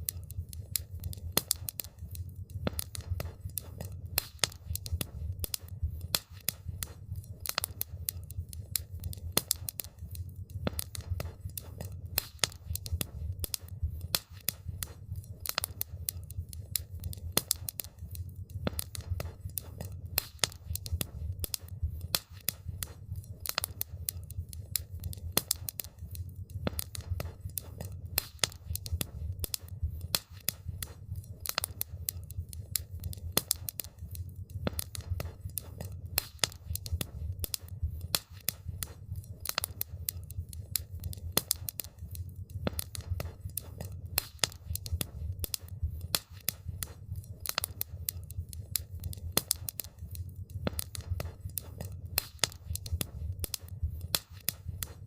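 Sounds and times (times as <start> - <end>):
campfire crackling and popping: 0.0 - 55.0
low rumble of flame: 0.0 - 55.0.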